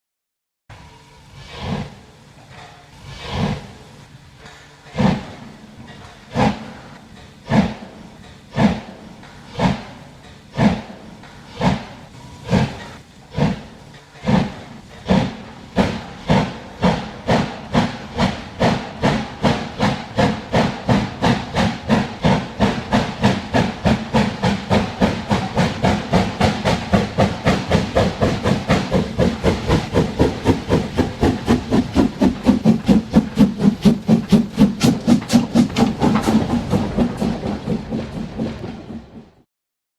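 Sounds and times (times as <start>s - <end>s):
steam locomotive exhaust chuffs: 0.7s - 39.4s.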